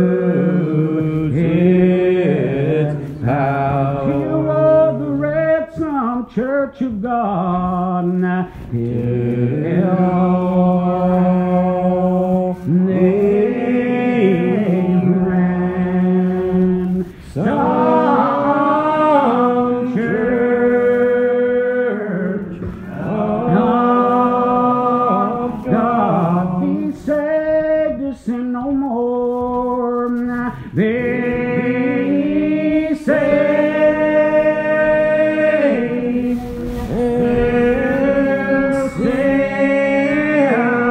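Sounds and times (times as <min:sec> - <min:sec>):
unaccompanied hymn singing: 0:00.0 - 0:40.9.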